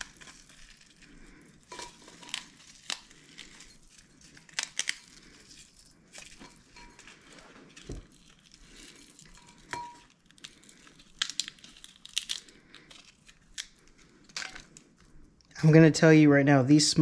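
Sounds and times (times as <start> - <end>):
dried chilis crackling and tearing: 0.0 - 15.5.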